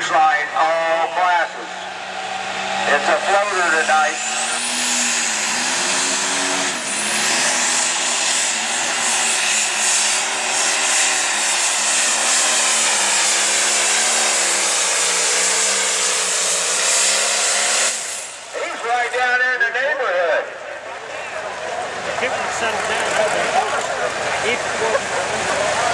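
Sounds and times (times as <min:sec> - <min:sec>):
diesel engine running under load: 0:00.0 - 0:25.9.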